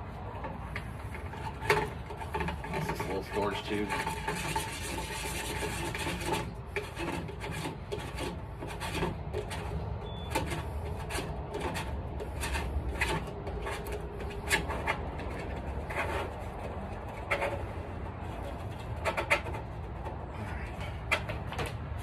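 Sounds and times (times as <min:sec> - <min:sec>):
end cap rasping scrapes: 0:00.2 - 0:22.0.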